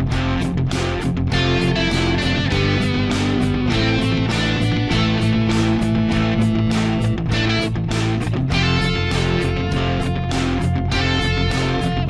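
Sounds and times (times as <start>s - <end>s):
rock music with guitars and drums: 0.0s - 12.0s.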